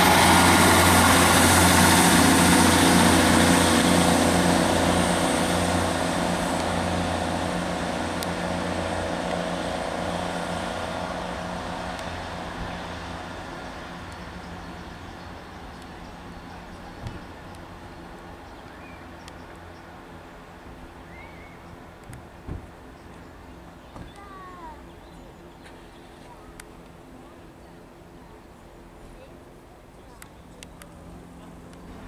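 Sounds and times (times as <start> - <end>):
diesel train engine drone: 0.0 - 32.0.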